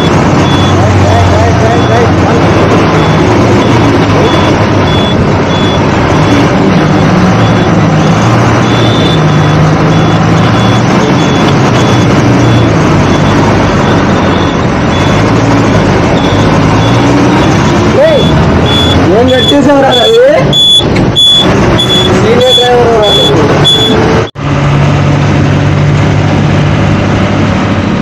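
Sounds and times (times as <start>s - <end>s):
short high-pitched beeps: 0.0s - 24.1s
lorry diesel engine at speed: 0.0s - 28.0s
road and wind noise: 0.0s - 28.0s.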